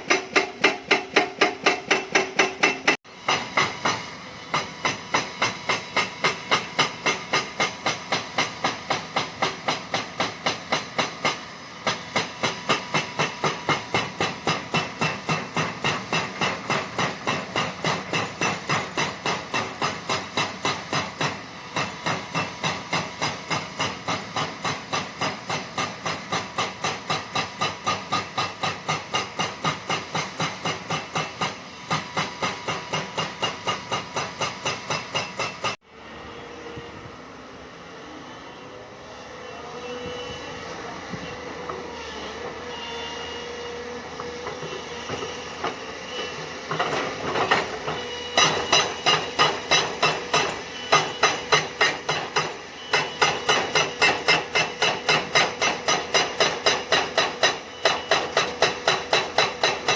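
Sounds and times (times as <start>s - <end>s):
hydraulic rock breaker hammering: 0.0s - 35.8s, 46.6s - 59.9s.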